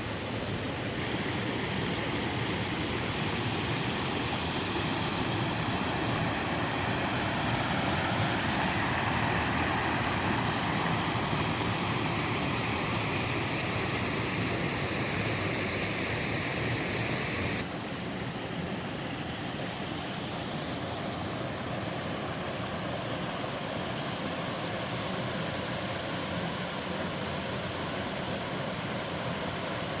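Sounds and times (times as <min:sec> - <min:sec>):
waterfall and stream rushing: 0:00.0 - 0:30.0.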